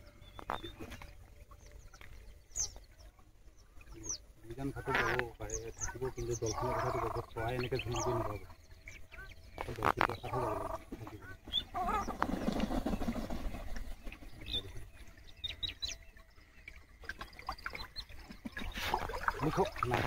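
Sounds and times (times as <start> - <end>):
waterbirds calling: 0.0 - 20.0.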